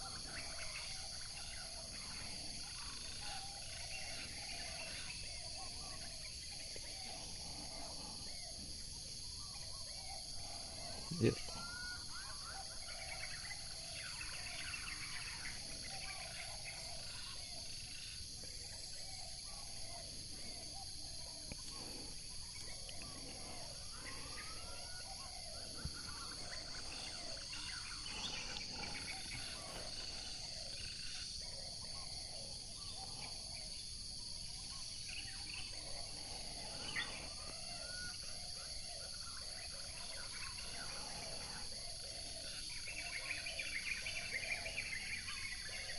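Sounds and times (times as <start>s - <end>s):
birds calling whistled notes: 0.0s - 45.9s
insects droning: 0.0s - 45.9s.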